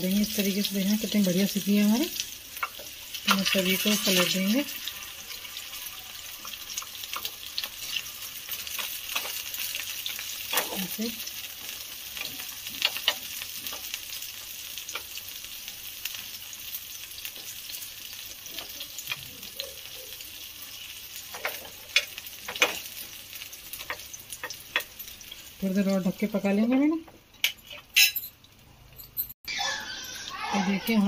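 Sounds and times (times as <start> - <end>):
dough sizzling in ghee: 0.0 - 28.7.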